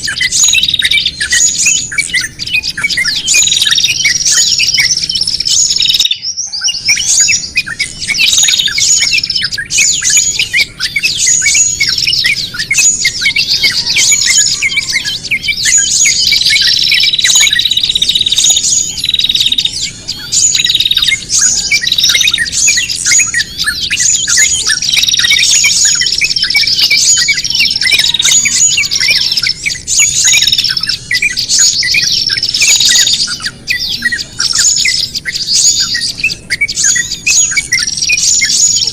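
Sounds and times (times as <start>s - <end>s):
small songbirds chirping: 0.0s - 38.9s.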